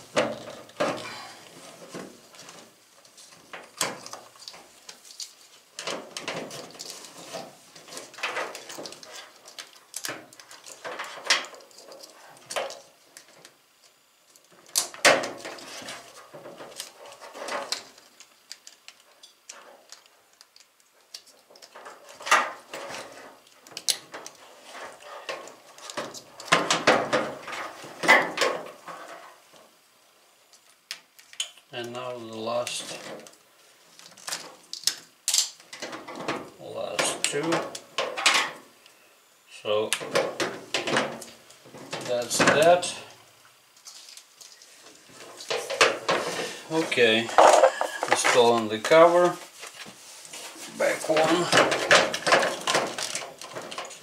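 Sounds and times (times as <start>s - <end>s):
wires rustling: 0.0s - 54.0s.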